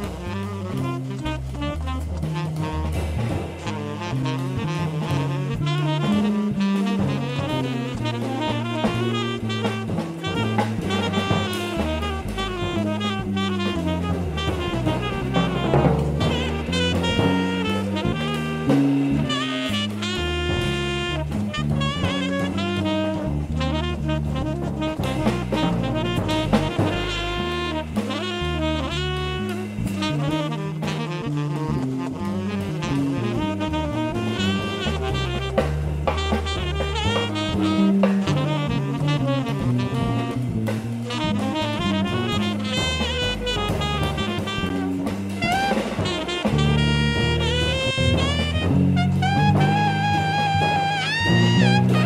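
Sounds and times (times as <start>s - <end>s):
bass line: 0.0s - 52.0s
drum kit: 0.0s - 52.0s
tenor saxophone playing: 0.0s - 52.0s.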